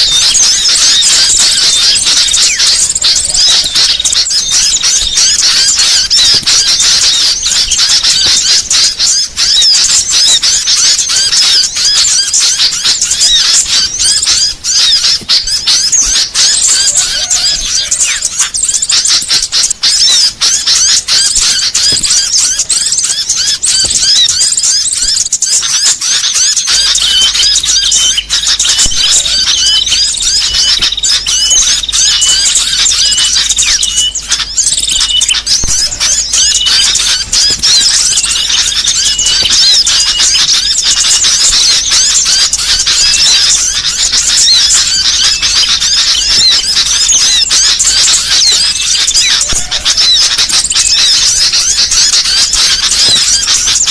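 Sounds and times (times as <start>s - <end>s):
small songbirds chattering: 0.0s - 53.9s.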